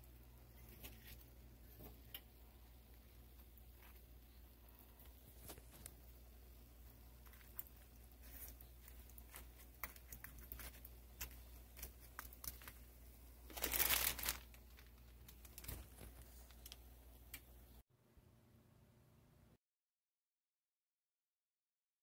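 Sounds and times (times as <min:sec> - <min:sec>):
pita frying with pops: 0:00.0 - 0:17.8.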